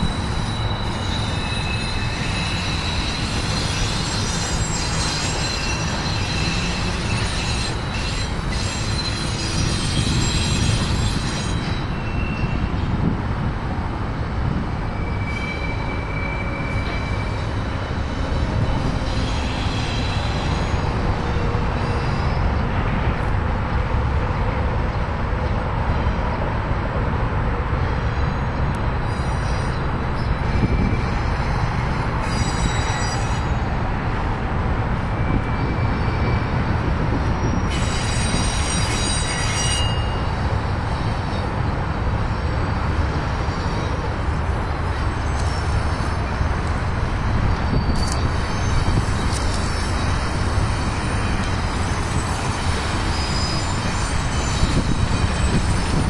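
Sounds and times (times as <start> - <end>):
high-pitched wheel squeals: 0.0 - 12.9, 14.8 - 22.8, 28.0 - 34.3, 35.0 - 56.0
train wheels rumbling on rail: 0.0 - 56.0.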